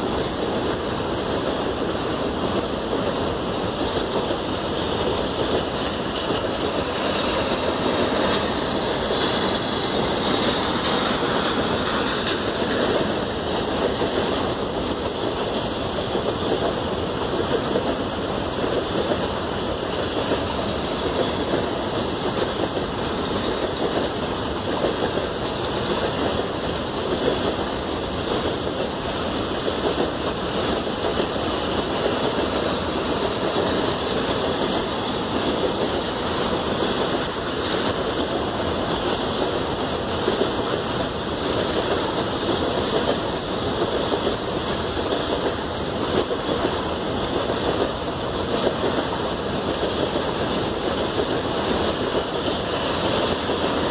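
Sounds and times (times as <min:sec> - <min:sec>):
train running on rails: 0:00.0 - 0:53.9.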